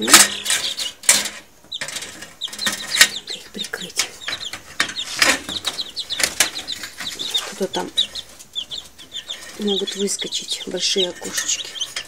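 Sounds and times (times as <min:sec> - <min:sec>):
sharp taps and rustles: 0:00.0 - 0:10.4
chicks peeping: 0:00.0 - 0:12.0.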